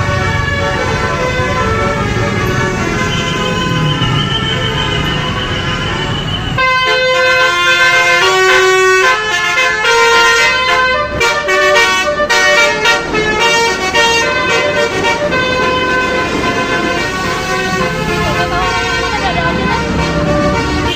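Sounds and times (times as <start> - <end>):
multi-tone musical bus horn: 0.0 - 20.9.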